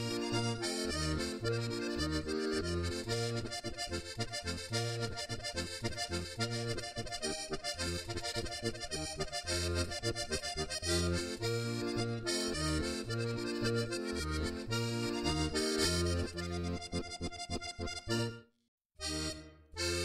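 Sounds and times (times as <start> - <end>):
button accordion playing a tune: 0.0 - 20.0.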